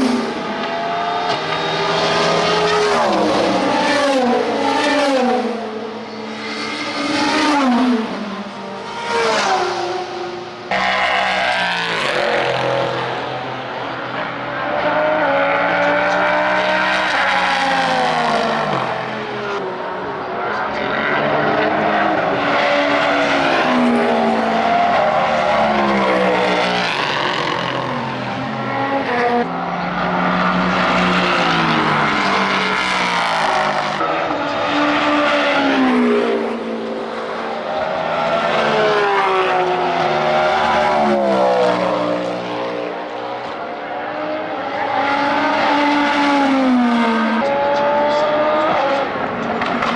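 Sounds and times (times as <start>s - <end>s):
race car engines passing: 0.0s - 49.9s.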